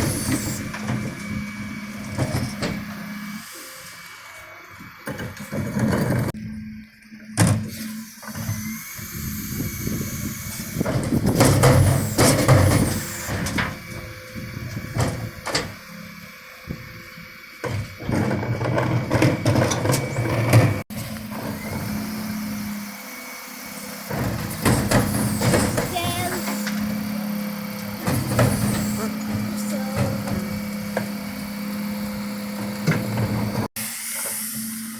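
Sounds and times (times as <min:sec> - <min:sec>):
truck engine hum: 0:00.0 - 0:33.8.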